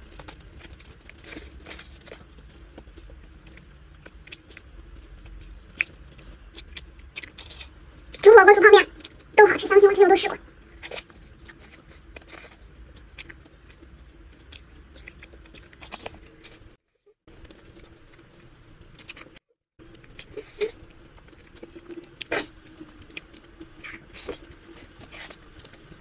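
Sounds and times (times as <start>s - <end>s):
soft chewing: 0.0s - 8.3s, 8.9s - 9.4s, 10.5s - 26.0s.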